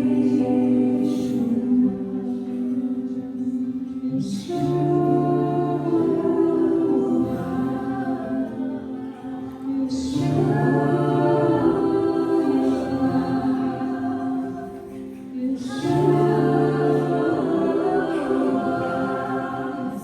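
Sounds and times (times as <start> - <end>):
sustained accompaniment: 0.0 - 20.0
voices singing held notes: 0.0 - 20.0.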